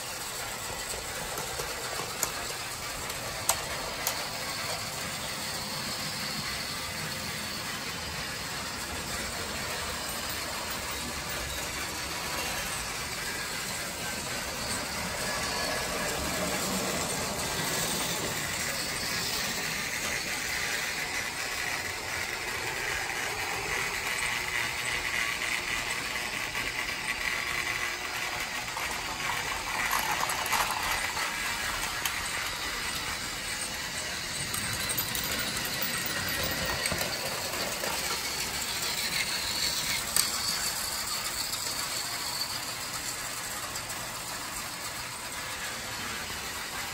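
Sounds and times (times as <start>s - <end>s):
toy train motor and gears: 0.0s - 46.9s.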